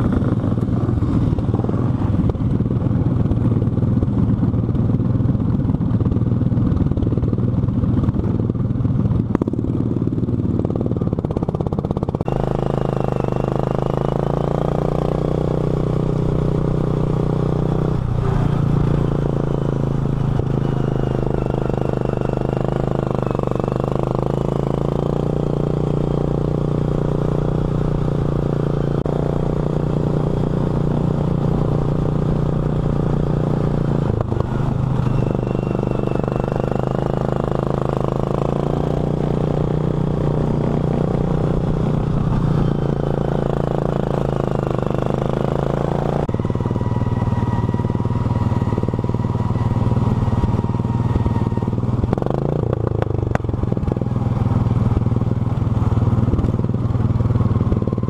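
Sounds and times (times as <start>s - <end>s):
lawn mower engine at high revs: 0.0s - 58.0s.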